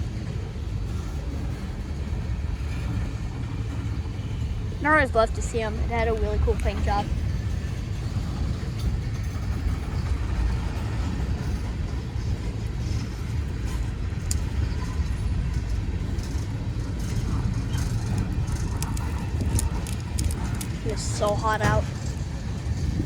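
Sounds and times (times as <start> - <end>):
freight train cars rolling: 0.0 - 23.0
sharp clicks of train cars: 0.0 - 23.0.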